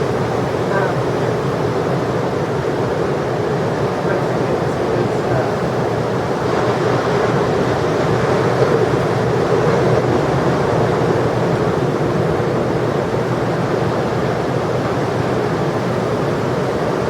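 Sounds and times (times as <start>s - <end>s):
ocean surf: 0.0s - 17.0s.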